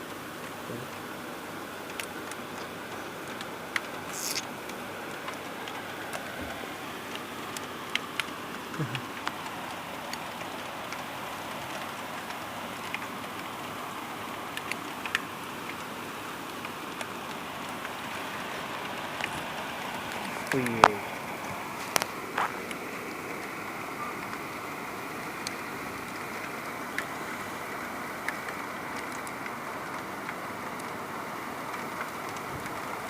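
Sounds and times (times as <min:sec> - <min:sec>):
hiss of falling rain and hail: 0:00.0 - 0:33.0
hailstones ticking on window: 0:00.1 - 0:33.0.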